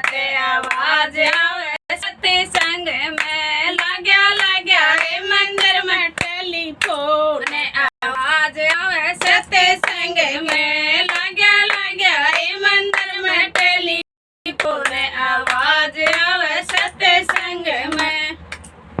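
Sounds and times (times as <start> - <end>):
rhythmic hand-clapping: 0.0 - 1.8, 2.4 - 7.7, 8.6 - 18.7
woman singing: 0.0 - 18.4.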